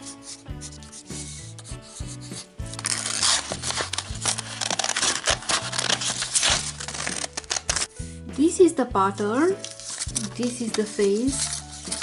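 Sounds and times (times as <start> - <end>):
scissors snipping paper: 0.0 - 7.9, 9.5 - 12.0
paper rustling: 0.0 - 8.0, 9.5 - 12.0
background music: 0.0 - 12.0.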